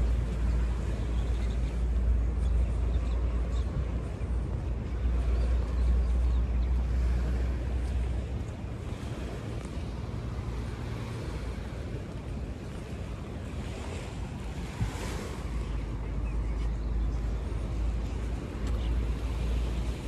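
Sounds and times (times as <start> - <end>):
surf washing on beach: 0.0 - 20.0
wind on microphone: 0.0 - 20.0.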